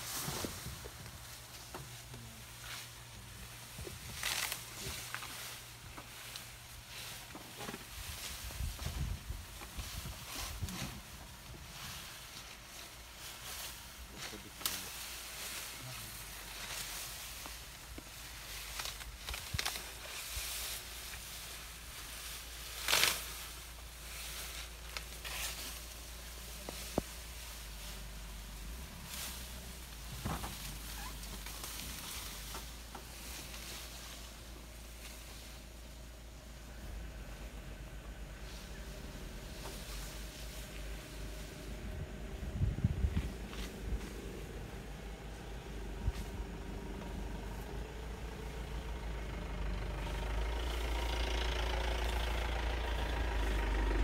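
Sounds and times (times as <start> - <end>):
grass swish: 0.0 - 1.6, 3.6 - 35.9, 38.3 - 49.0
grass rustling and tearing: 0.0 - 54.0.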